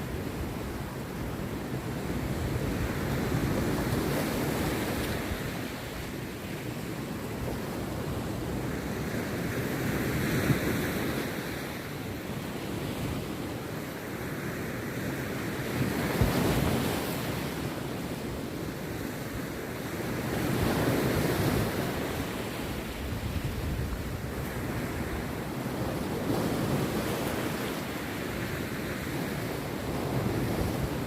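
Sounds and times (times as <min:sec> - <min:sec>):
sea waves breaking on beach: 0:00.0 - 0:31.0.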